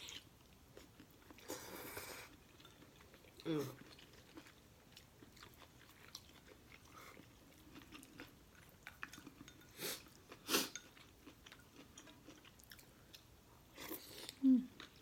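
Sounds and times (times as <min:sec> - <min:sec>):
chewing noodles: 0:00.0 - 0:15.0.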